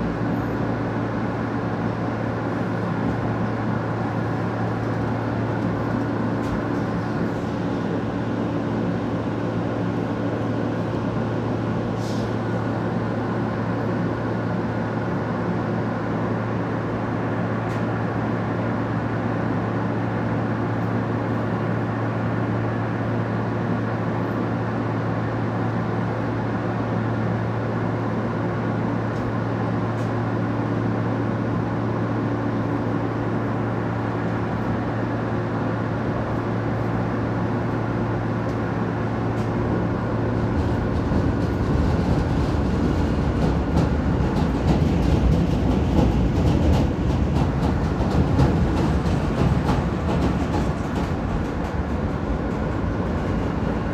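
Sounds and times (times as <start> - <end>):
subway wheels rumbling on rail: 0.0 - 53.9.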